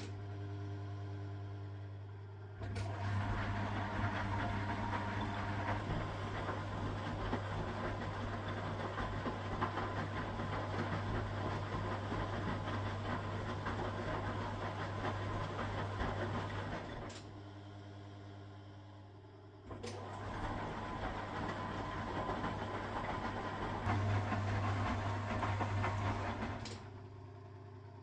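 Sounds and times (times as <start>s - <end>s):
washing machine running: 0.0s - 28.0s.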